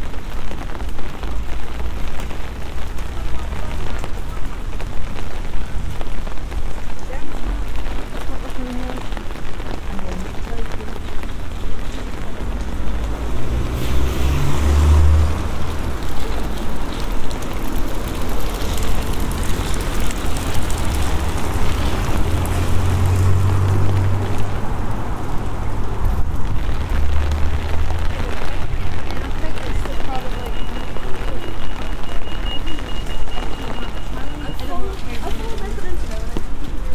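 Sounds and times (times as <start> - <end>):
car tyres swishing on wet road: 0.0 - 36.9
rain hissing: 0.0 - 36.9.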